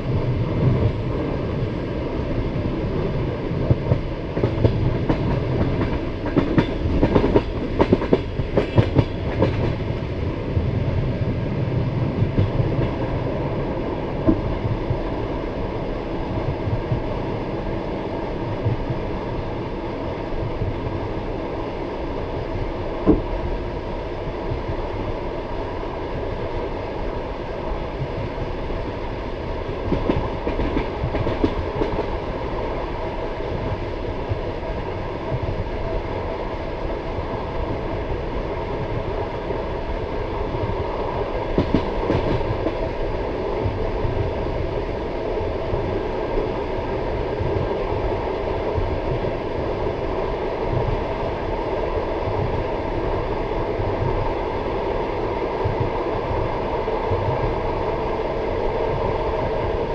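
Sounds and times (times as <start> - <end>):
train carriage rumble: 0.0 - 59.9.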